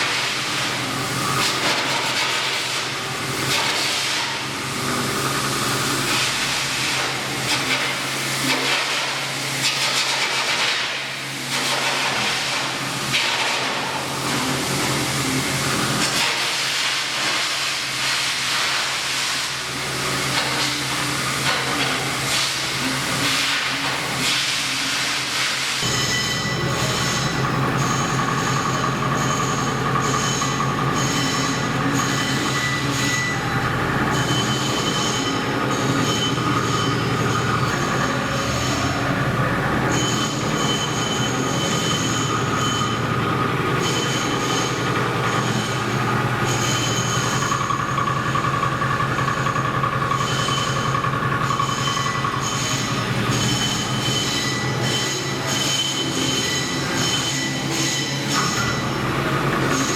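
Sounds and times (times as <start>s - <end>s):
metal cutting squeal: 0.0s - 59.9s
milling machine running hum: 0.0s - 59.9s.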